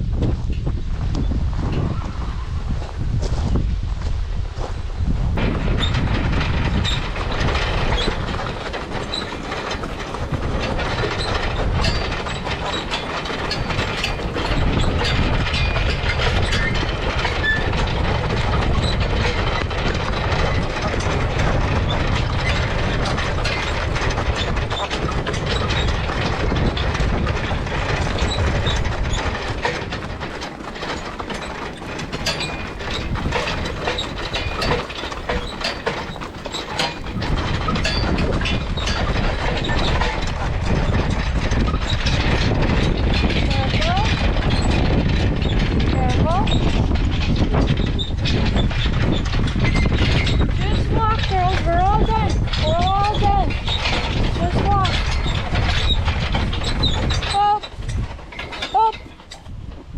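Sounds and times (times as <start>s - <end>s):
steel track scraping and clanking: 5.3s - 59.9s.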